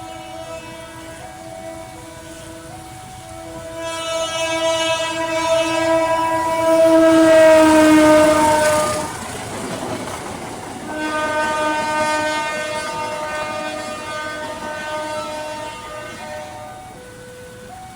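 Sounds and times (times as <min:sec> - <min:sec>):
passing train rumble: 0:00.0 - 0:17.9
train horn: 0:00.0 - 0:17.9.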